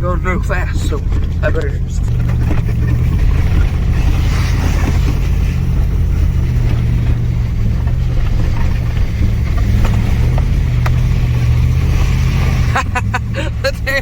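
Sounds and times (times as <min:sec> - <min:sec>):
road noise: 0:00.0 - 0:14.0
truck engine hum: 0:00.0 - 0:14.0.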